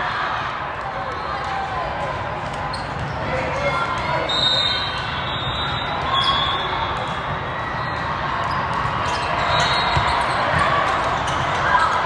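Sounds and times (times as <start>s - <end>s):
people chattering in echoing hall: 0.0s - 12.0s.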